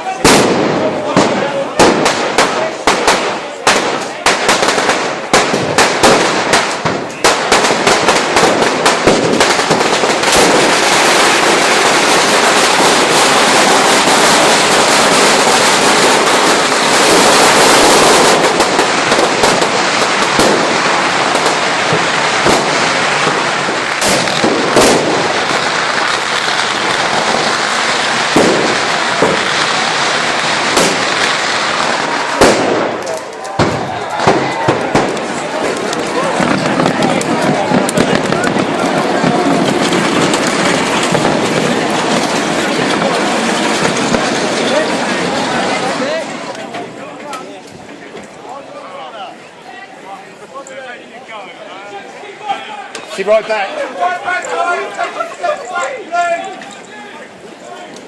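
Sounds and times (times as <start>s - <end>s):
firecrackers crackling and banging: 0.0s - 58.0s.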